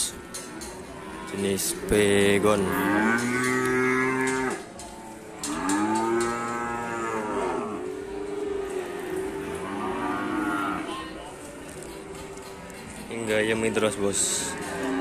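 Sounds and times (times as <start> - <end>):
cattle mooing: 0.2 - 12.5, 14.1 - 15.0.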